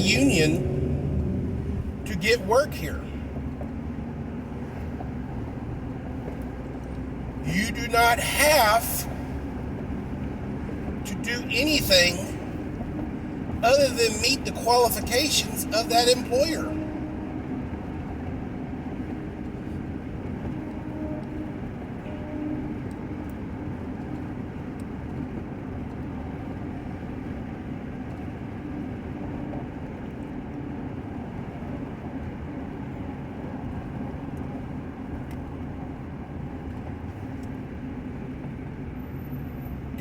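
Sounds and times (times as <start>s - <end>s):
road and engine drone in car: 0.0s - 40.0s.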